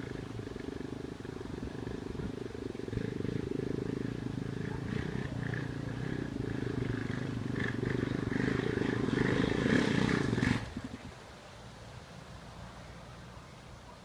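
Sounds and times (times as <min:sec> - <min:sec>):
quad bike engine climbing trail: 0:00.0 - 0:11.2.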